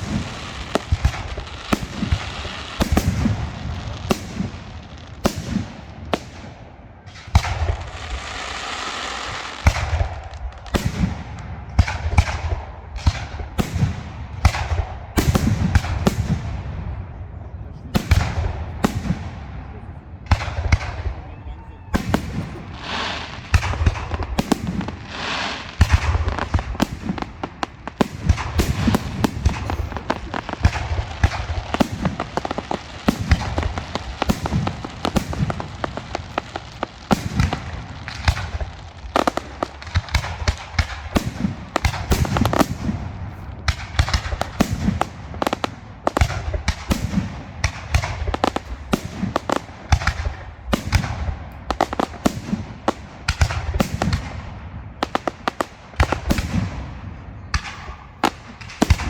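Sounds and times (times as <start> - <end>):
fireworks bangs and cracks: 0.0 - 59.0.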